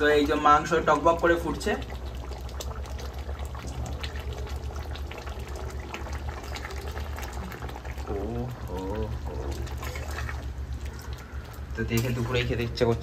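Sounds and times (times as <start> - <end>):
curry bubbling and popping: 0.0 - 13.0.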